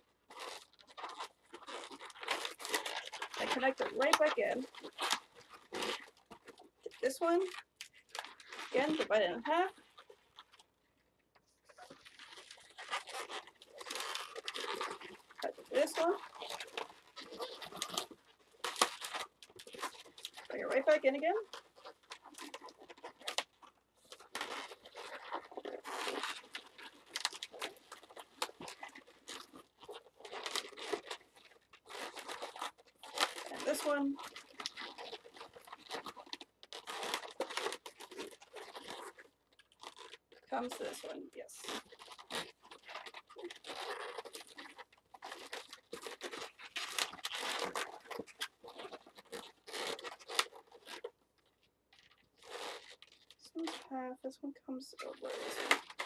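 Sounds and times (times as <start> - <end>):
balloons rubbing and crinkling: 0.0 - 56.0.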